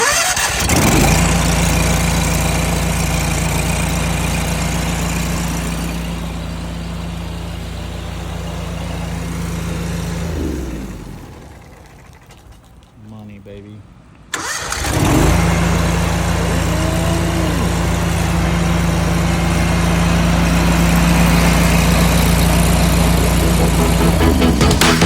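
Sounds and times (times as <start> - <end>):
pressure washer engine running: 0.0 - 12.9, 14.5 - 25.0.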